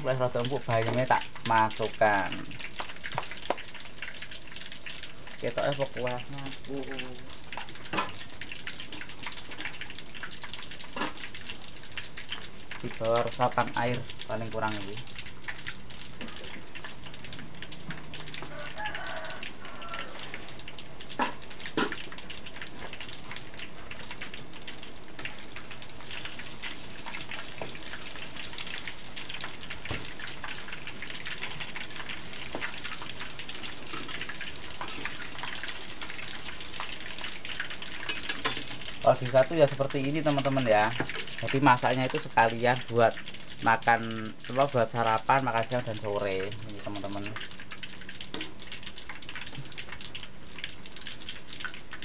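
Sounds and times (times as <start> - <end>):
frying in hot oil sizzling: 0.0 - 52.0.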